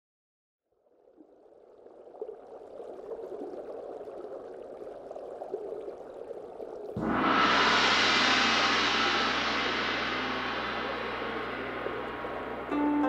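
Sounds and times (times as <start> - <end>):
water trickling and splashing: 0.7 - 13.0.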